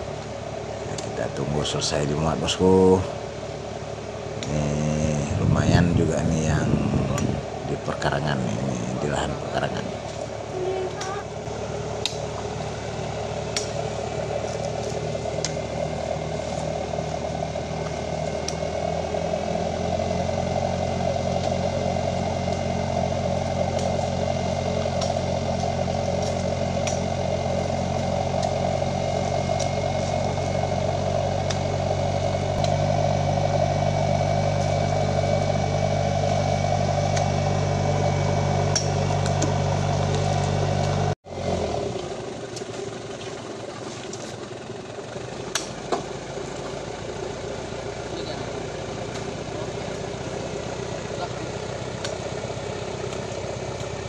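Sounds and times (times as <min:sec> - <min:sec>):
diesel engine revving idle: 0:00.0 - 0:54.0.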